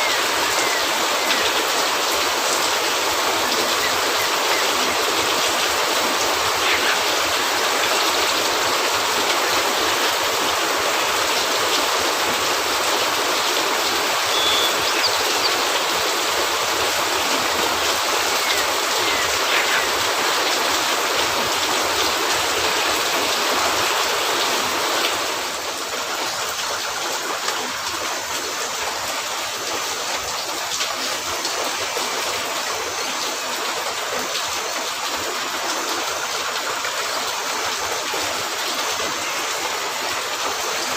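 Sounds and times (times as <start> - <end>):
rain on a cabin roof: 0.0 - 40.9.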